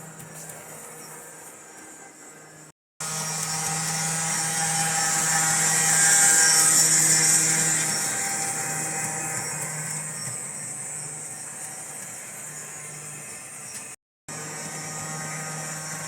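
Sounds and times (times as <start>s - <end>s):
model train motor whirring: 0.0s - 16.0s
model train wheels on track: 0.0s - 16.0s.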